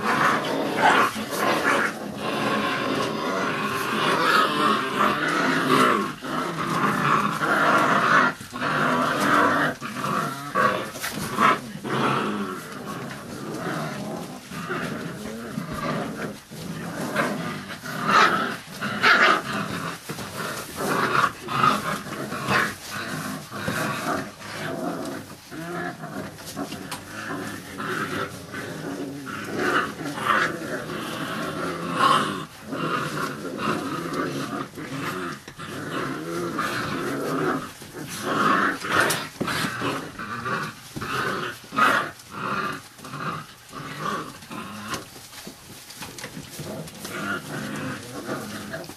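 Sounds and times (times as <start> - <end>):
puppies growling at play: 0.0 - 48.9.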